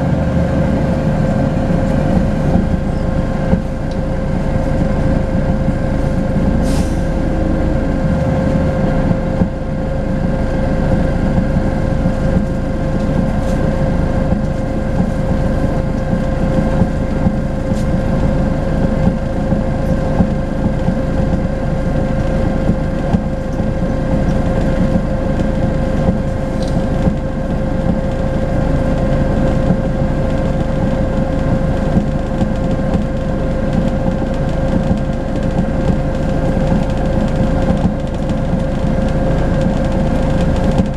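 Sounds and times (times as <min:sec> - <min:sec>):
diesel bus engine rumble: 0:00.0 - 0:40.9.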